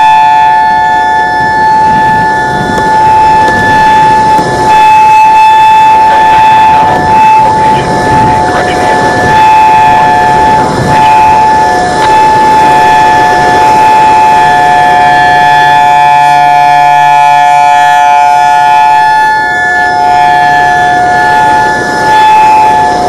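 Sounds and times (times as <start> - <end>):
warning siren steady tone: 0.0 - 23.0.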